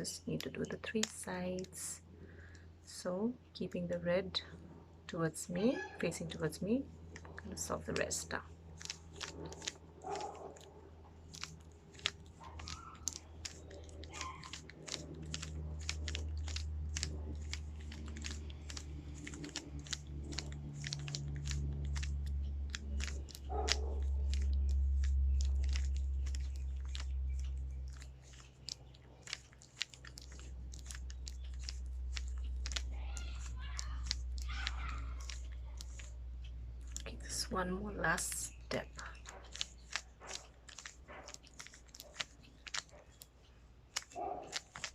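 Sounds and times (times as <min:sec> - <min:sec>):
puzzle cube plastic clicks: 0:00.3 - 0:01.9, 0:07.2 - 0:36.2, 0:36.8 - 0:43.3, 0:43.9 - 0:44.9.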